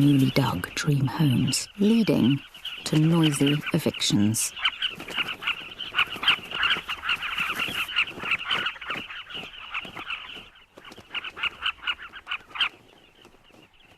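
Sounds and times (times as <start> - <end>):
birds chattering calls: 0.0 - 13.9.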